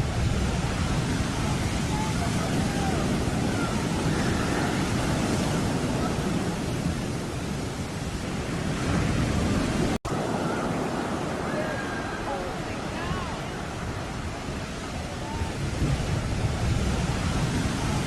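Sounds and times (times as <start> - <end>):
heavy sea surf breaking: 0.0 - 18.0
wind rumbling on microphone: 0.0 - 18.0.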